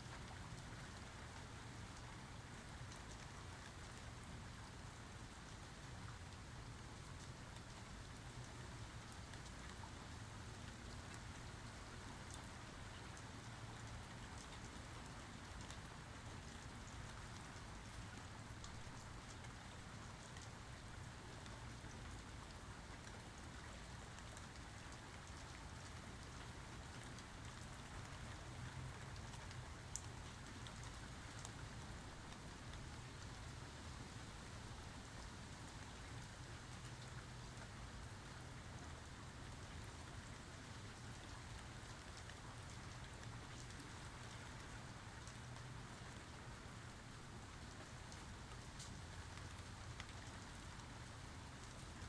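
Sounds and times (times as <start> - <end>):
rain falling: 0.1 - 52.0.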